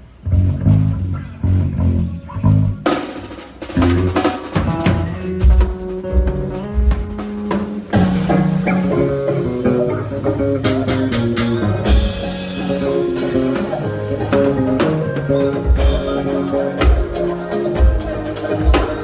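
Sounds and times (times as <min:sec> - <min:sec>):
bass notes: 0:00.0 - 0:19.0
chords: 0:00.0 - 0:19.0
drum kit: 0:00.0 - 0:19.0.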